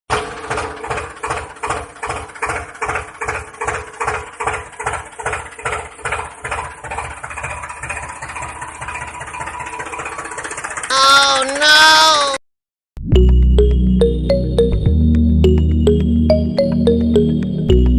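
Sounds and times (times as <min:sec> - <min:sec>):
engine chugging: 0:00.1 - 0:12.4, 0:13.2 - 0:17.9.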